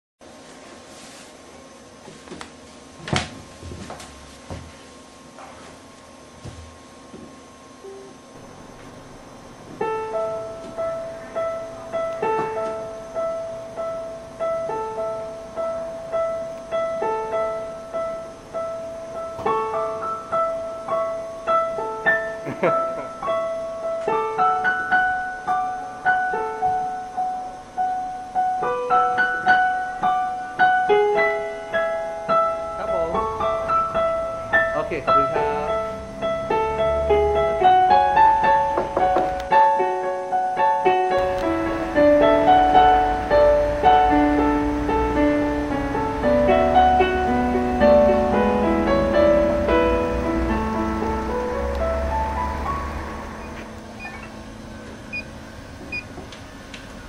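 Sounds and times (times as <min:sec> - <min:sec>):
slow piano melody: 0:07.8 - 0:57.0.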